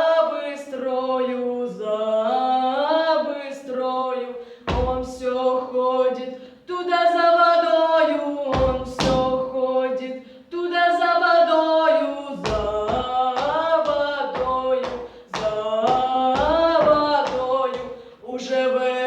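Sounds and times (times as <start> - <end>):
girl singing folk song: 0.0 - 19.0.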